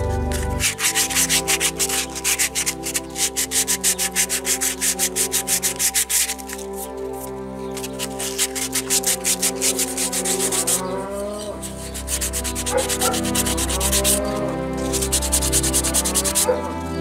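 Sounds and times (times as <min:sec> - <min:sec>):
background music with gliding melody: 0:00.0 - 0:17.0
fast rubbing strokes: 0:00.0 - 0:17.0.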